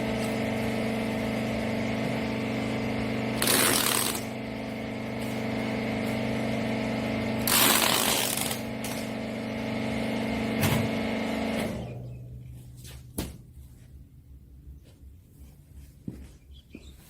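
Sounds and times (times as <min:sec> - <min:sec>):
baler motor and pump humming: 0:00.0 - 0:14.0.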